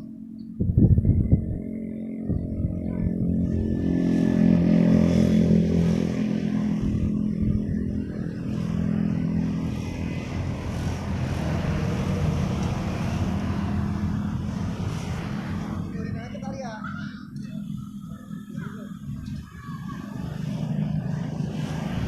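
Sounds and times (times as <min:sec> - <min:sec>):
motor engine running: 0:00.0 - 0:22.0.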